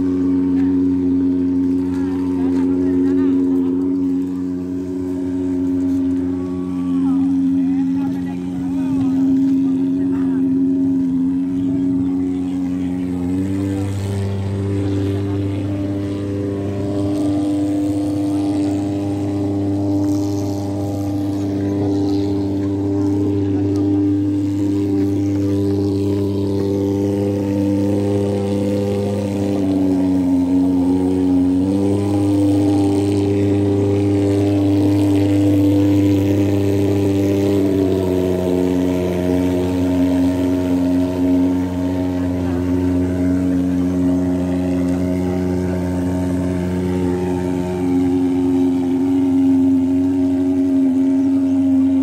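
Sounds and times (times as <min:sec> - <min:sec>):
pulse-jet engine buzzing drone: 0:00.0 - 0:52.0.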